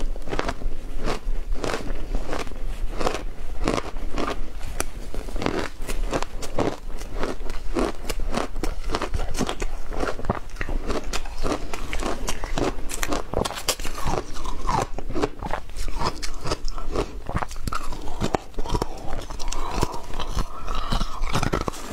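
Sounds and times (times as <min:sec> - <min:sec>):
crunching shaved ice: 0:00.0 - 0:04.4, 0:05.1 - 0:21.9.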